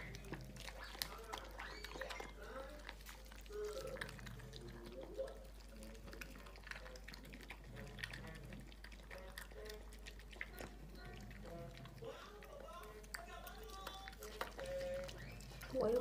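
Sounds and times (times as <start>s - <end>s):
kibble clicking against bowl: 0.0s - 15.8s
dog crunching kibble: 0.0s - 16.0s.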